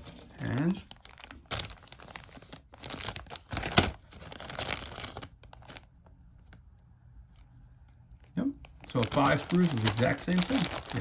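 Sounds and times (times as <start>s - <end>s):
plastic bags crinkling: 0.0s - 6.5s, 8.4s - 11.0s.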